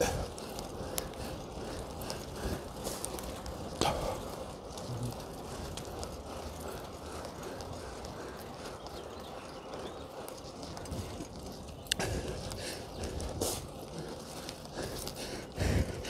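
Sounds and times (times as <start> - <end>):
bicycle tyre and road noise: 0.0 - 16.0.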